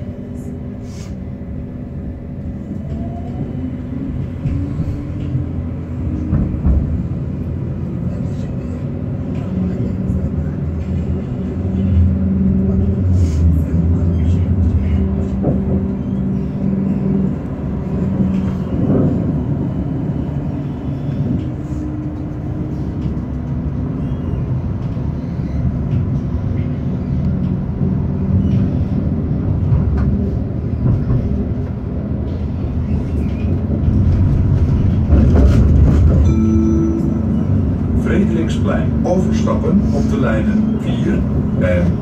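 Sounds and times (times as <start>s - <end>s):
tram wheels rumbling on track: 0.0s - 42.0s.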